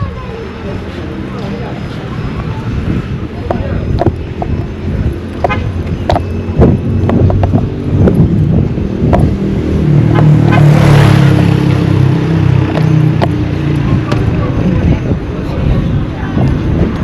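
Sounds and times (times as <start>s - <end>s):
vehicle engine passing: 0.9s - 15.7s.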